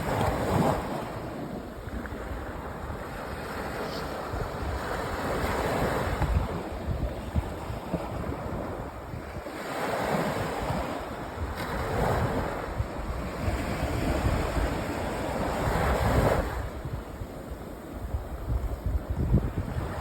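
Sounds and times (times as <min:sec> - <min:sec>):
waves washing onto beach: 0:00.0 - 0:20.0
wind buffeting microphone: 0:00.0 - 0:20.0.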